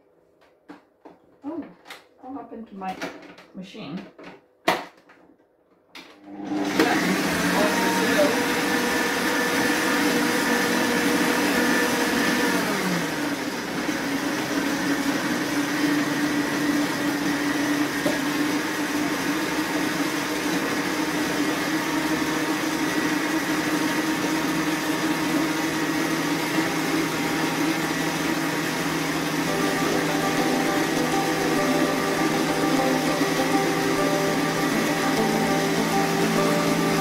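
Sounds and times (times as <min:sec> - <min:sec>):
stand mixer motor running: 0:06.3 - 0:37.0.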